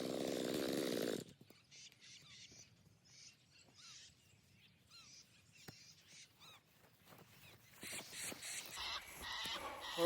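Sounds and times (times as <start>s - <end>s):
flock of birds chirping: 1.2s - 10.0s.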